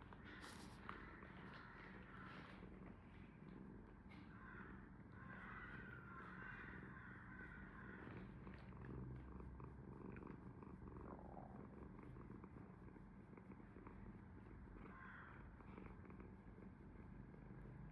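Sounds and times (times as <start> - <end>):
cat purring: 0.0 - 4.3, 5.8 - 17.9.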